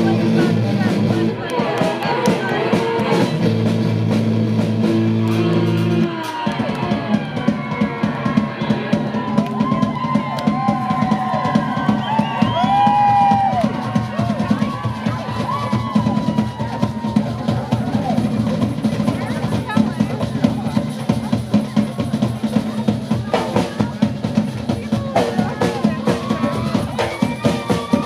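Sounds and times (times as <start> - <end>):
drums and cajon beat: 0.0 - 28.0
folk-punk band playing: 0.0 - 28.0.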